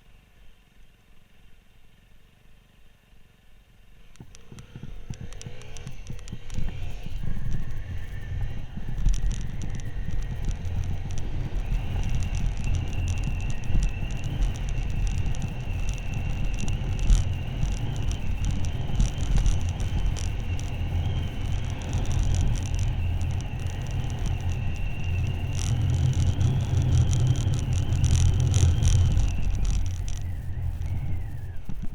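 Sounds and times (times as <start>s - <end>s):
thin high whine: 4.0s - 31.9s
motorcycle engine rumbling: 4.1s - 31.9s
wind on microphone: 4.2s - 31.9s.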